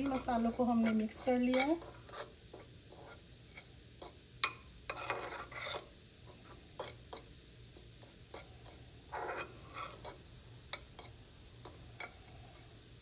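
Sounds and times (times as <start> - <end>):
spoon scraping clay bowl: 0.0 - 12.8.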